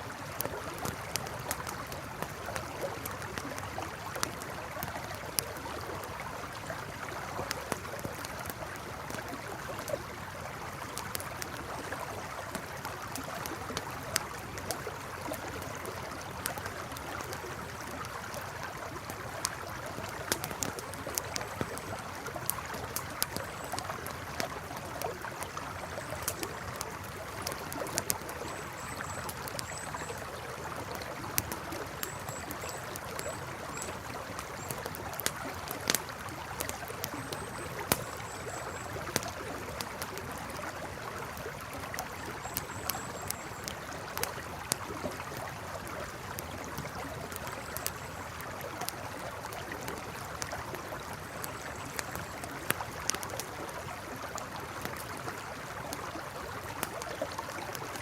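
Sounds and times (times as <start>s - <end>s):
campfire crackling: 0.0s - 58.0s
river flowing: 0.0s - 58.0s.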